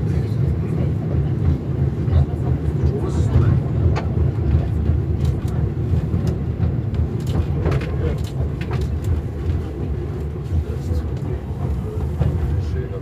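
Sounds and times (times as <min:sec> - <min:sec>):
railbus droning: 0:00.0 - 0:13.0.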